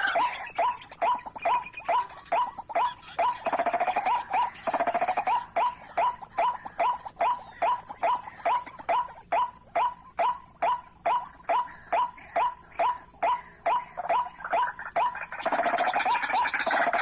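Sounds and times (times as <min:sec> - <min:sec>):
another bird calling: 0:00.0 - 0:17.0
waterhen calling: 0:00.0 - 0:17.0.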